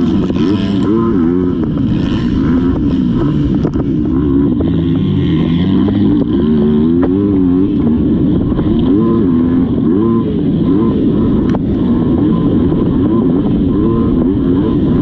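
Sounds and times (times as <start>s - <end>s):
motocross engine revving: 0.0s - 15.0s.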